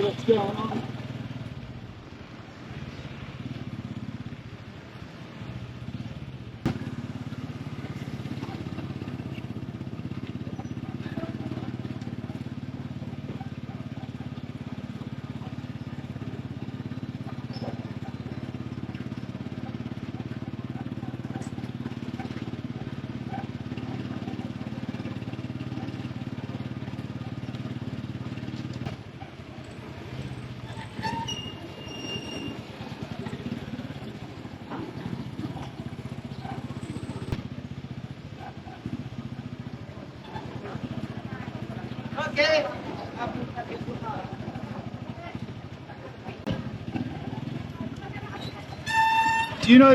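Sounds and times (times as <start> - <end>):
small motorcycle engine running: 0.0 - 49.9.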